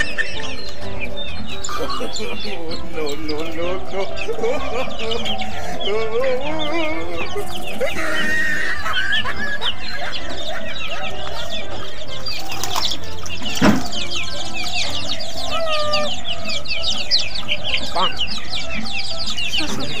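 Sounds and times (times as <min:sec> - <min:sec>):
chickens clucking: 0:00.0 - 0:20.0
chorus of high chirps: 0:00.0 - 0:20.0.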